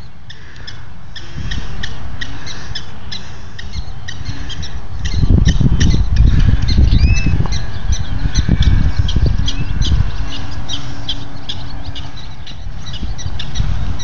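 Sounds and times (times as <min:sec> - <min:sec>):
wind rumble on microphone: 0:01.2 - 0:02.6, 0:03.3 - 0:14.0.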